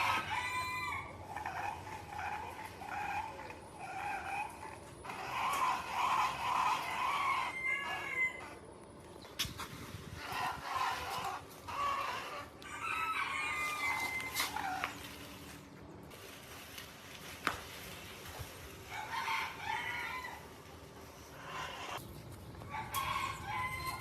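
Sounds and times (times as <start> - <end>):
chickens calling: 0.0 - 15.9, 17.4 - 24.0.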